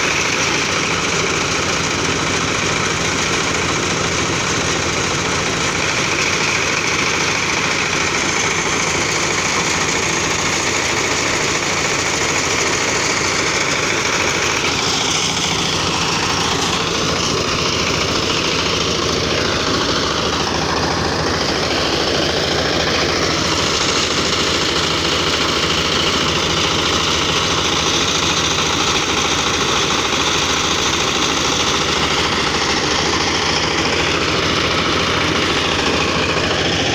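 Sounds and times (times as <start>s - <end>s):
diesel engine running under load: 0.0s - 36.9s.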